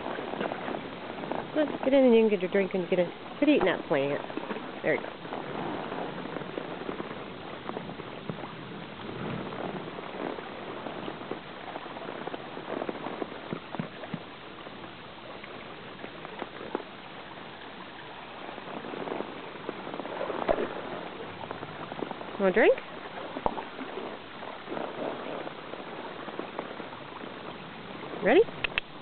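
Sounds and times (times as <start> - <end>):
creek water over stones: 0.0 - 29.0
small water splashes: 0.0 - 29.0.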